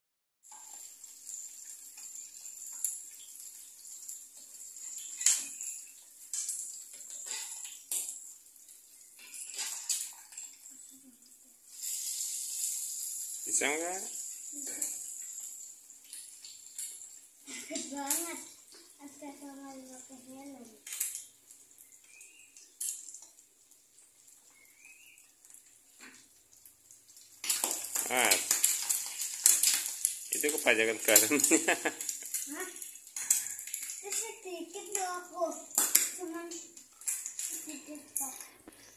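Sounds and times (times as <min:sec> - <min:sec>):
egg sizzling in oil: 0:00.4 - 0:38.9.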